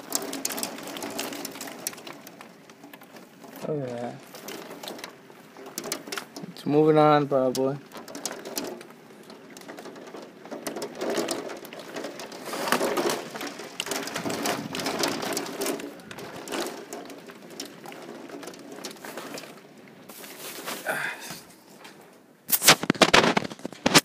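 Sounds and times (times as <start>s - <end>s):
hailstones pattering on house: 0.0s - 24.0s.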